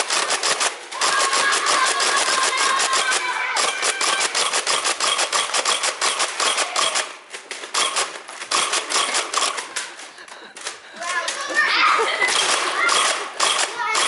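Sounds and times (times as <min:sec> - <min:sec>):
rapid clicking clatter: 0:00.0 - 0:10.0, 0:12.3 - 0:14.0.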